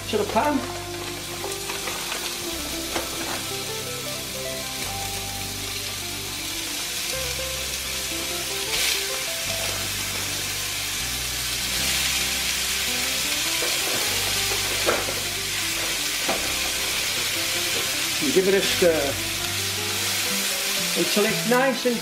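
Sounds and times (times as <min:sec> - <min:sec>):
background music with bass line: 0:00.0 - 0:21.4
meat sizzling in a frying pan: 0:00.0 - 0:22.0.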